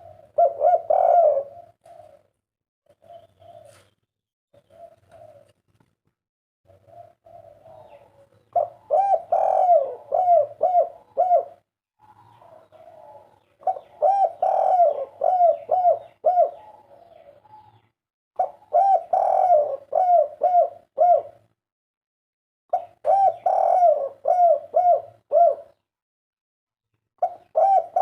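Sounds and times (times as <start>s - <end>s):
dove cooing: 0.0s - 4.0s, 4.6s - 5.6s, 6.7s - 21.6s, 22.7s - 25.8s, 27.2s - 28.0s.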